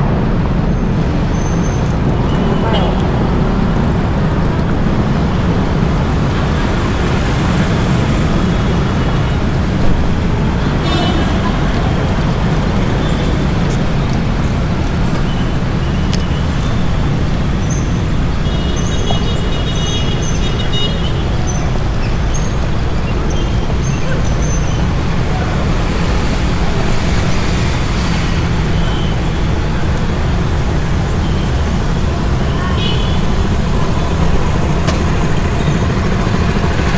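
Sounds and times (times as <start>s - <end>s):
road traffic rumble: 0.0s - 36.9s.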